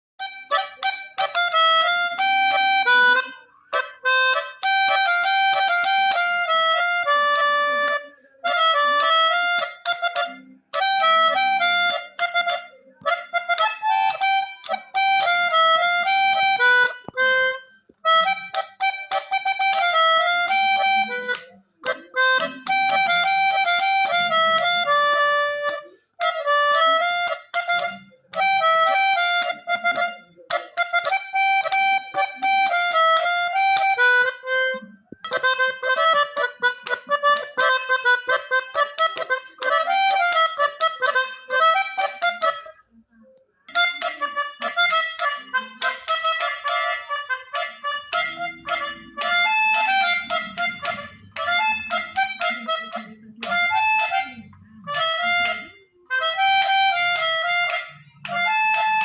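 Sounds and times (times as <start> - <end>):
melodica melody: 0.2 - 59.0.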